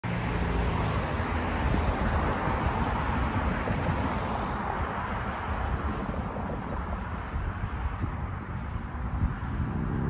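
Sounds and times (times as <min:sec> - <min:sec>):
cars passing: 0:00.0 - 0:10.0
wind buffeting microphone: 0:00.2 - 0:10.0.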